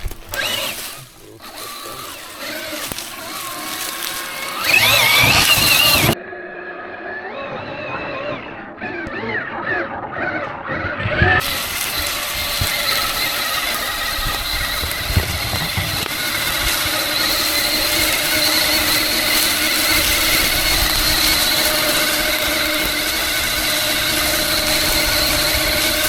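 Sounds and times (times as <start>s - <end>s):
rc car motor whining: 0.0s - 26.0s.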